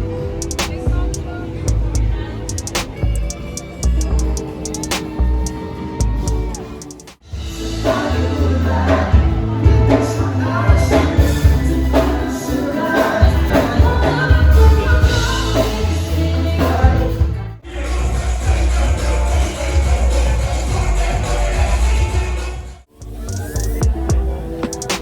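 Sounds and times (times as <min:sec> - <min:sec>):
background music: 0:00.0 - 0:25.0
song with singing over beat: 0:00.0 - 0:25.0.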